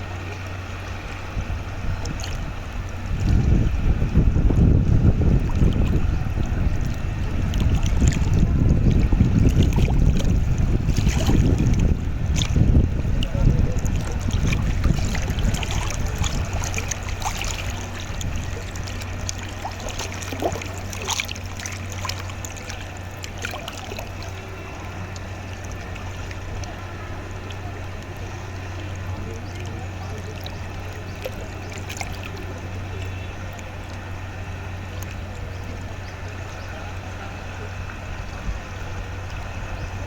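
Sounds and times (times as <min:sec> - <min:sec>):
constant low hum: 0:00.0 - 0:40.0
river water flowing and lapping: 0:00.0 - 0:40.0
wind rumble on microphone: 0:00.0 - 0:40.0.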